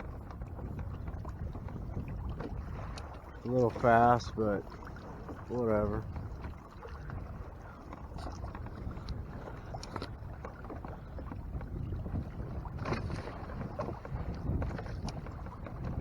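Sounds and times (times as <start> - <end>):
water sloshing against kayak hull: 0.0 - 16.0
wind rumble on microphone: 0.0 - 16.0.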